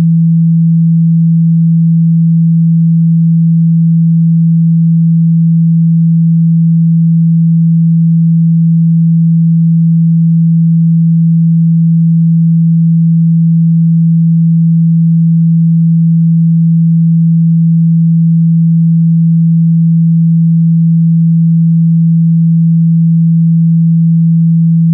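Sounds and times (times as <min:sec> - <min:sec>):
low sine tone hum: 0:00.0 - 0:24.9.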